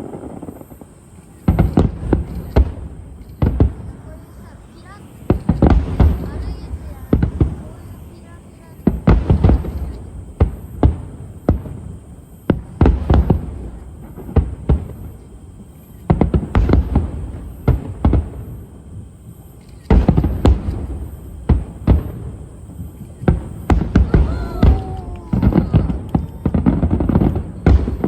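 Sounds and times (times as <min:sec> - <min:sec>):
firework shells bursting: 0:00.0 - 0:28.0.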